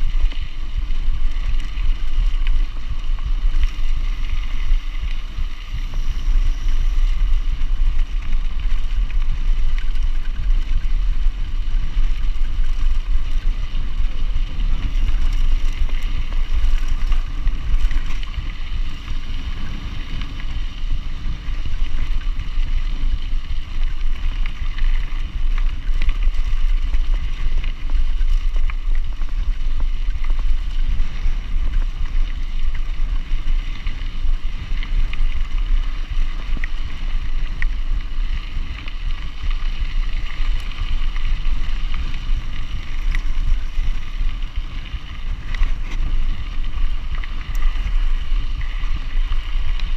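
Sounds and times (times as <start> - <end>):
bike rolling over gravel: 0.0 - 49.9
wind buffeting camera: 0.0 - 49.9.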